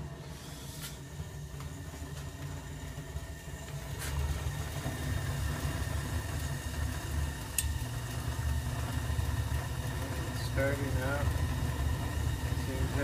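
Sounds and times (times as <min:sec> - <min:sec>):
furnace motor hum: 0:00.0 - 0:13.0.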